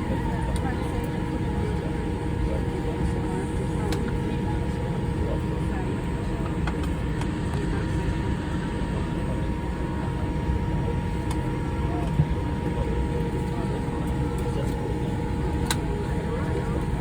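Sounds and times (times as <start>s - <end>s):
aircraft cabin rumble: 0.0s - 17.0s
constant hum: 0.0s - 17.0s
faint passenger chatter: 0.0s - 17.0s.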